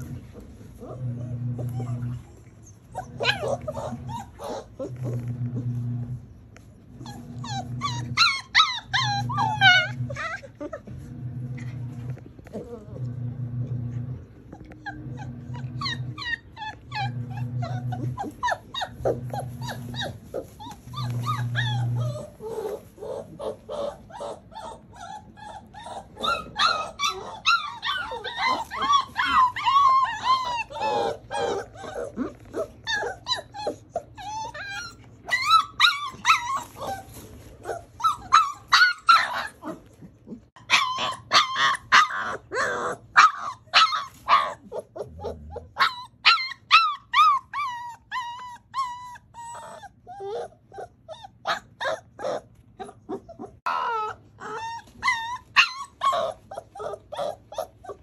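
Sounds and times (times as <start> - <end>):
puppies yipping and squealing: 0.0 - 13.8, 14.4 - 58.0.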